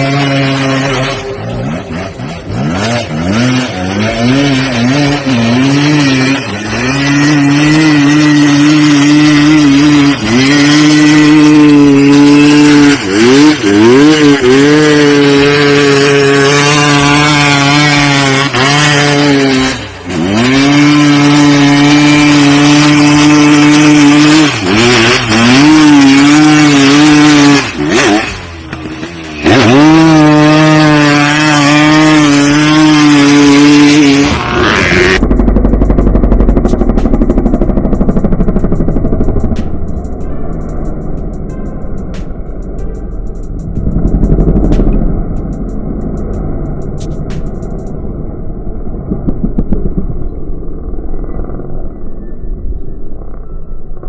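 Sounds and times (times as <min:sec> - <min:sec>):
off-road vehicle engine revving: 0:00.0 - 0:47.9.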